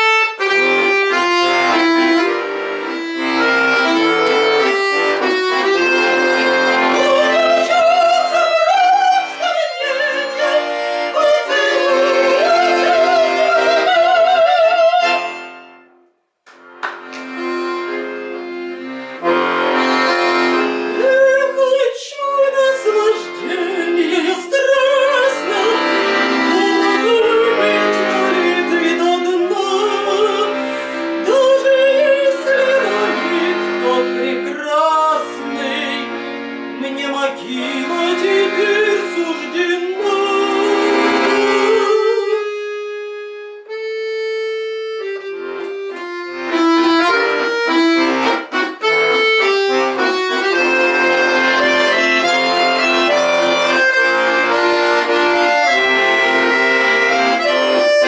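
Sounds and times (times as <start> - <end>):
accordion music: 0.0 - 58.0.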